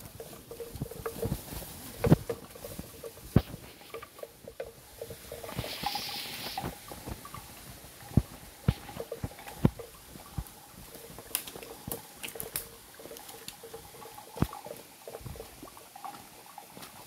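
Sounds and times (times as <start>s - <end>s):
foliage rustling: 0.0s - 17.0s.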